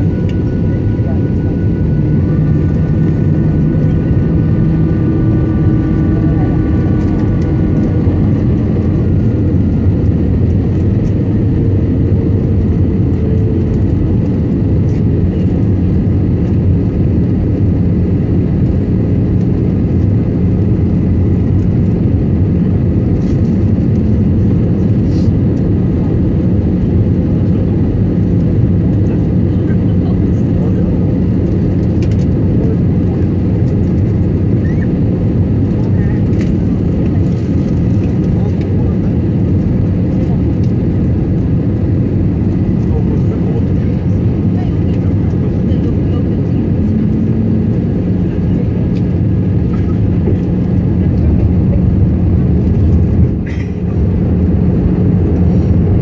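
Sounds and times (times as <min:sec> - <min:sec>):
airliner cabin roar: 0:00.0 - 0:56.0.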